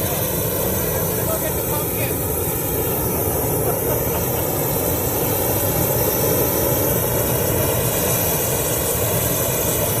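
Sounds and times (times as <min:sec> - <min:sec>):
propane torch flame rushing: 0:00.0 - 0:10.0.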